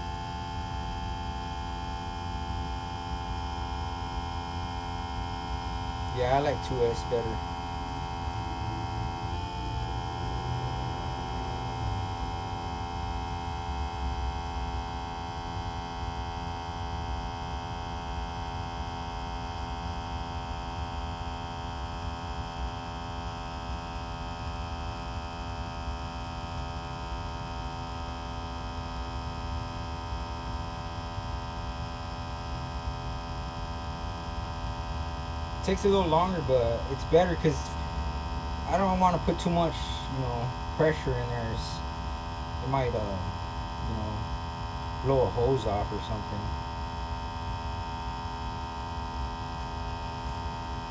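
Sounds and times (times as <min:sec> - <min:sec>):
electric fuel pump humming: 0:00.0 - 0:50.9.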